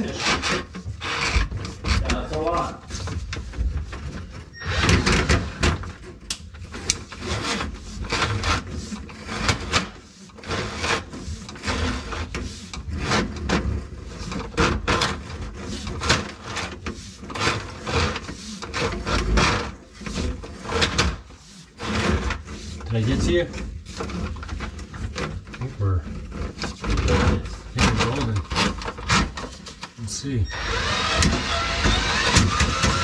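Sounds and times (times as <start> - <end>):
drain cable scraping in pipe: 0.0 - 33.0.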